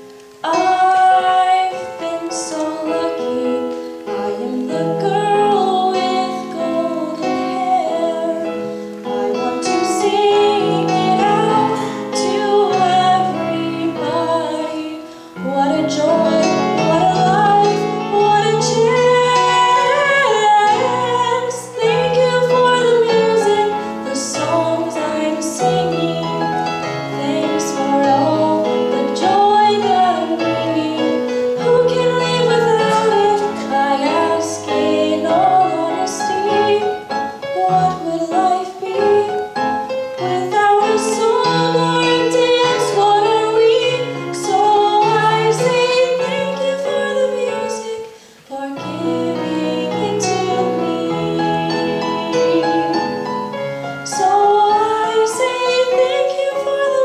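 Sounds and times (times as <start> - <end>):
piano accompaniment: 0.0 - 57.0
woman singing: 0.3 - 57.0.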